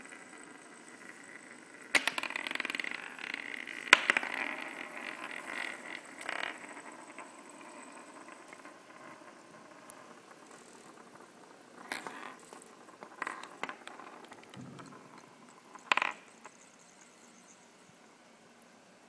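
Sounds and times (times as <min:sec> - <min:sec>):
spinning top rattling whir: 0:00.0 - 0:17.6.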